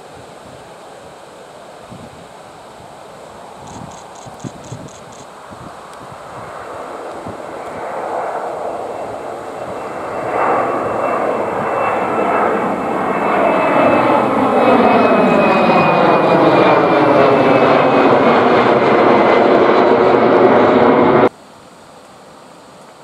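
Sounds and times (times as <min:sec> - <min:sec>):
jet airliner climbing overhead: 0:01.7 - 0:21.4.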